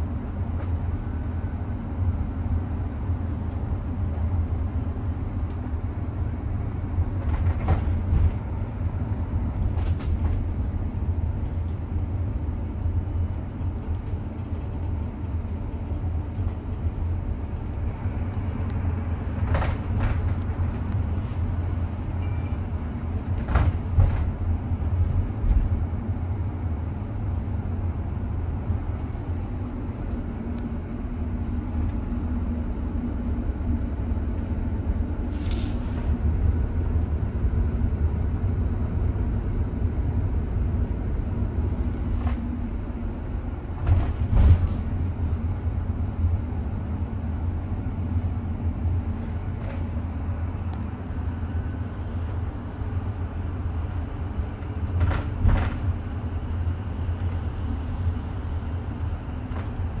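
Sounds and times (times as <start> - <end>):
bus rumble from inside: 0.0 - 60.0.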